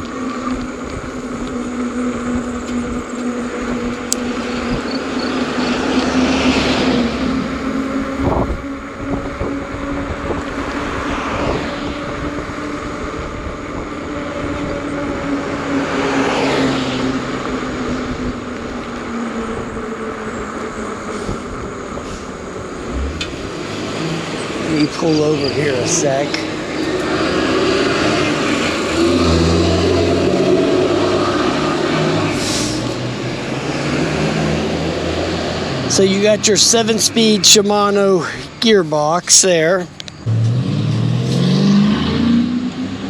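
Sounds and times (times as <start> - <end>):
electric bike motor hum: 0.0 - 36.9
cars passing: 0.0 - 43.0
road and wind noise: 0.0 - 43.0.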